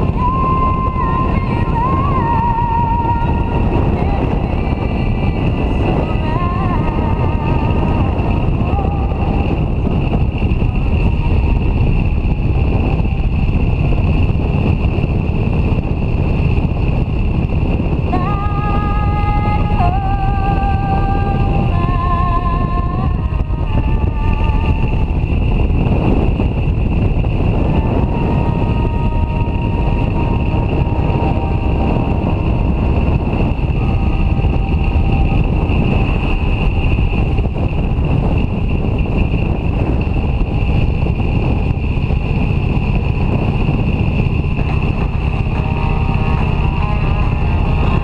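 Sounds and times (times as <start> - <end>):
constant high whistle: 0.0 - 48.0
motorcycle engine cruising: 0.0 - 48.0
wind rush: 0.0 - 48.0.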